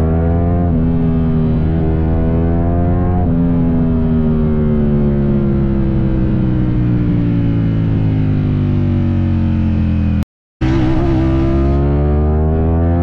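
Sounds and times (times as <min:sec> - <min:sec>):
motorcycle engine decelerating: 0:00.0 - 0:13.0.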